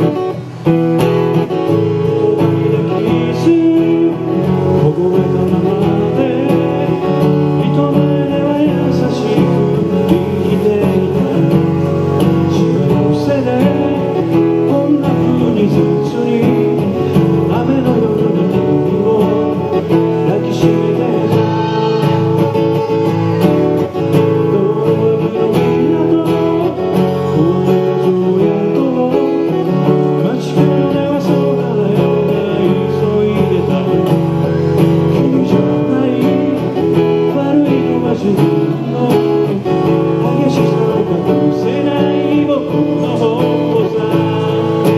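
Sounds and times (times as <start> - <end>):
acoustic guitar: 0.0 - 44.9
person singing pop song: 1.4 - 44.9.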